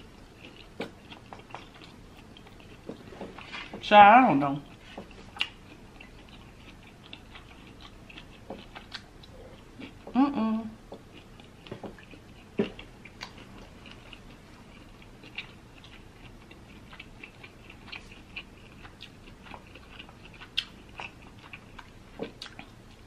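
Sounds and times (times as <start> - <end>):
person chewing seafood: 0.0 - 3.8, 4.7 - 10.2, 10.8 - 23.0.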